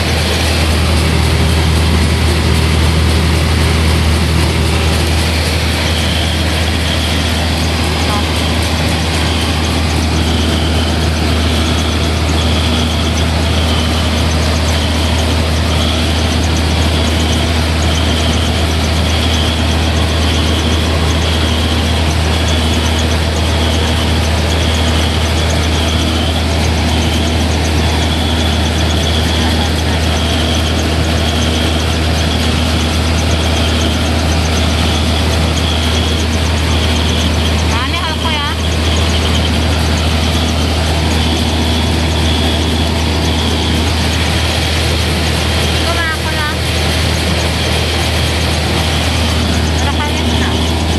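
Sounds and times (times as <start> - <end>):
rice milling machine humming: 0.0 - 50.9.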